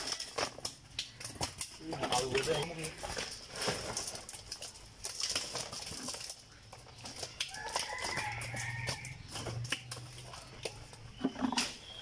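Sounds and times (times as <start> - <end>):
fish flapping on wet concrete: 0.0 - 12.0.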